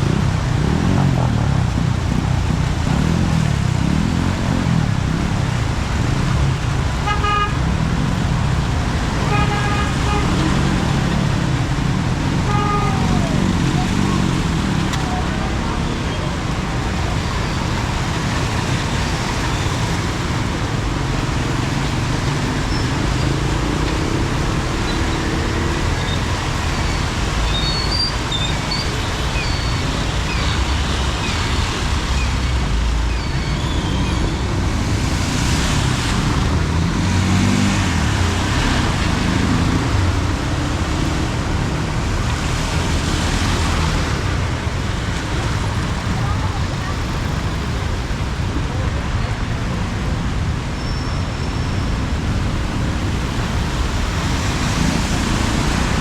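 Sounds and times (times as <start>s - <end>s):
motorbike and car engines rumbling: 0.0s - 56.0s
vehicles passing: 0.0s - 56.0s
tyres hissing on wet road: 3.0s - 56.0s.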